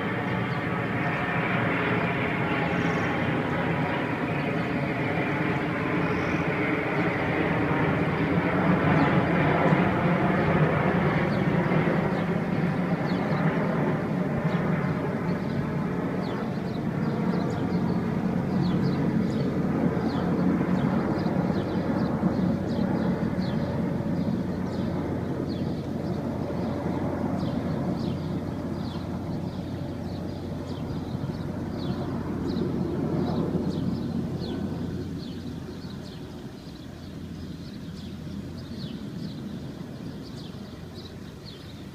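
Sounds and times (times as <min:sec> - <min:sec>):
plane flying over: 0:00.0 - 0:41.9.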